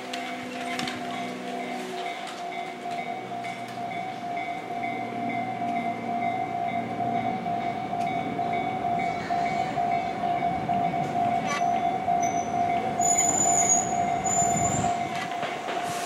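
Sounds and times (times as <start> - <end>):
railroad crossing bell ringing: 0.0 - 16.0
train rumble: 0.0 - 16.0.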